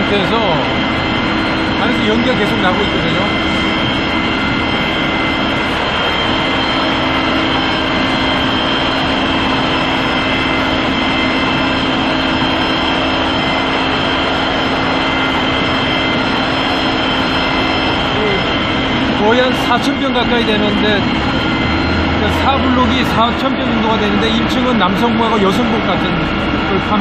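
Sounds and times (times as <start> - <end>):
heavy machinery droning: 0.0 - 27.0.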